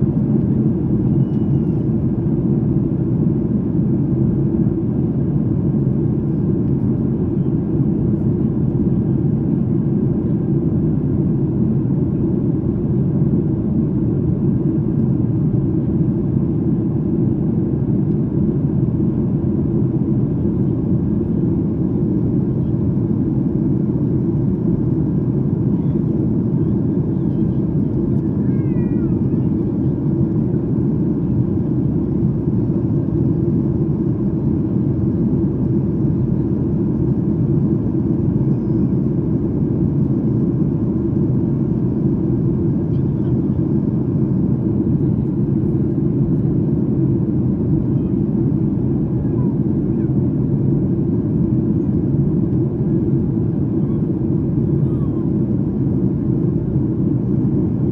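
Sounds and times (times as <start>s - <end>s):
airliner cabin engine rumble: 0.0s - 57.9s.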